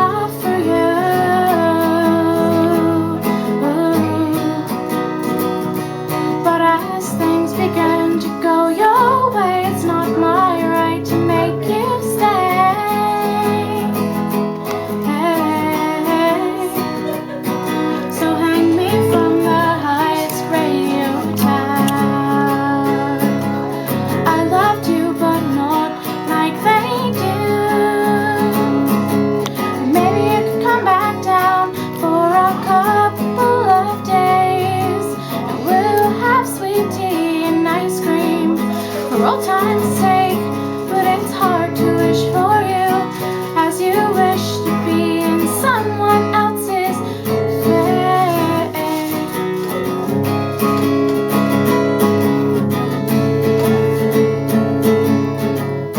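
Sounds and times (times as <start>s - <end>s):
woman singing: 0.0s - 50.5s, 51.7s - 55.9s
acoustic guitar: 0.0s - 55.9s.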